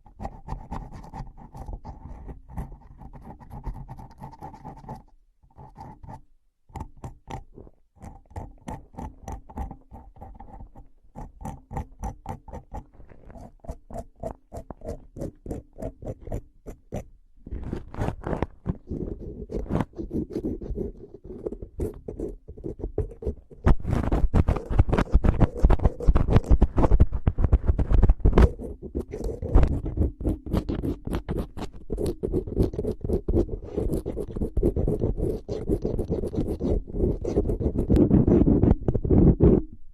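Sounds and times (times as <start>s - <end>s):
rapid tapping and scratching: 0.0s - 6.2s, 6.8s - 39.8s.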